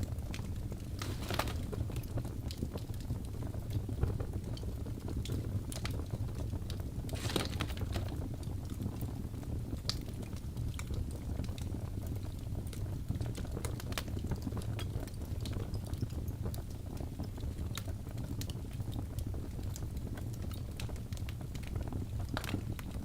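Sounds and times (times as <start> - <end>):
burning wood crackling and popping: 0.0 - 23.0
fire rumbling: 0.0 - 23.0.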